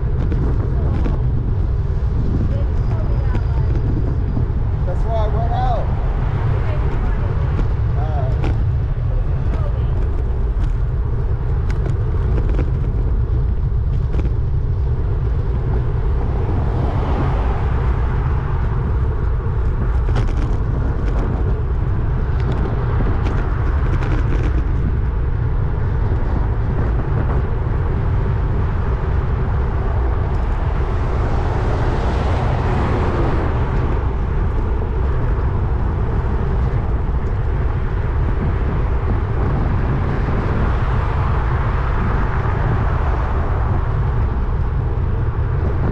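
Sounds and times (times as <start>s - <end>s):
wind buffeting microphone: 0.0s - 45.9s
wind whoosh: 0.0s - 45.9s.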